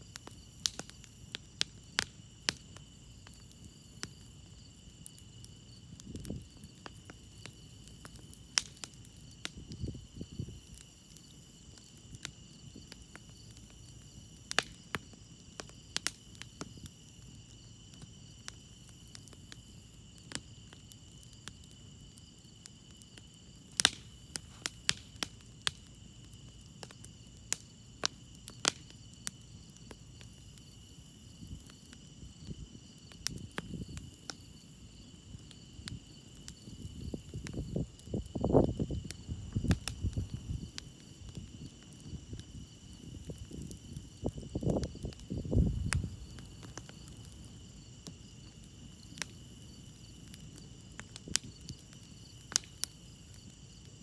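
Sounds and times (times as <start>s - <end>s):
campfire crackling and popping: 0.0s - 54.0s
crickets chirring: 0.0s - 54.0s.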